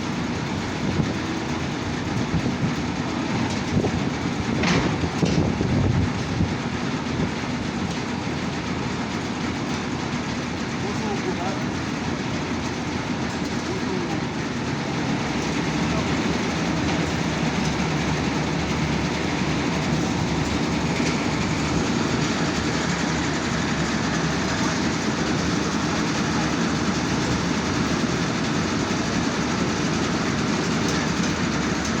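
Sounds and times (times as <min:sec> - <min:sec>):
combine harvester running: 0:00.0 - 0:32.0.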